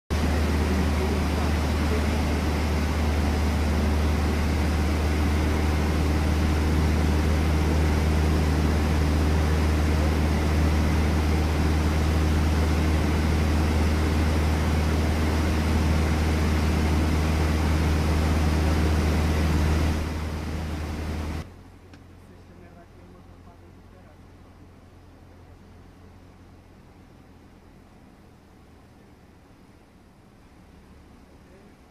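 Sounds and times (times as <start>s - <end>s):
small plane engine drone: 0.1s - 31.9s.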